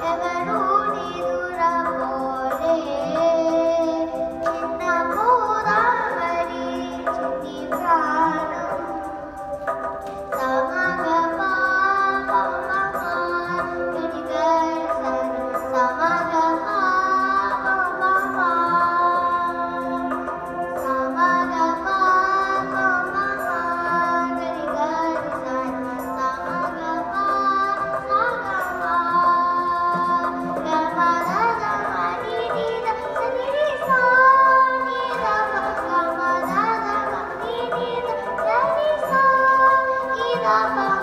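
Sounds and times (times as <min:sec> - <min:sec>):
girl singing into a microphone: 0:00.0 - 0:41.0.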